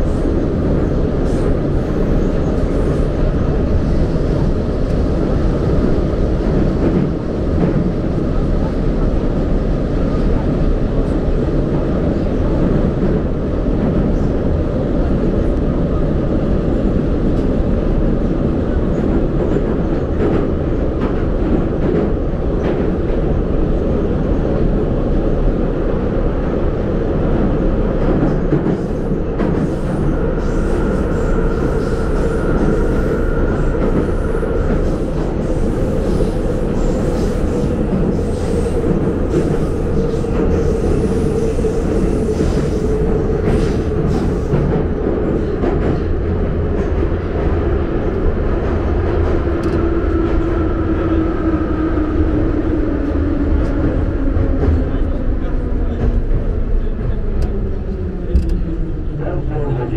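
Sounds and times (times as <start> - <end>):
metro train rumbling: 0.0 - 59.9.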